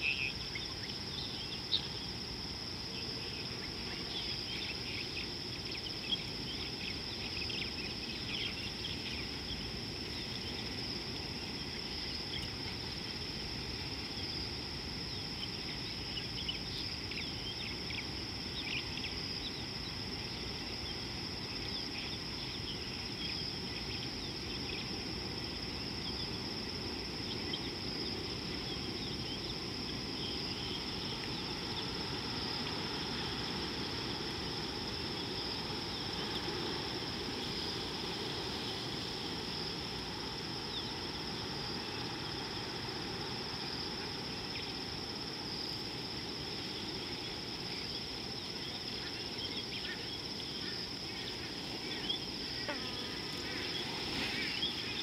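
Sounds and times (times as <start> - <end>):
high insect drone: 0.0 - 55.0
low background noise: 0.0 - 55.0.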